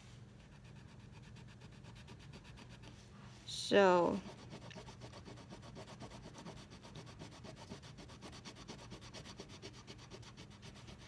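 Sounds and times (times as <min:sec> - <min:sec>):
coloring tool scraping paper: 0:00.4 - 0:03.0, 0:04.2 - 0:11.0.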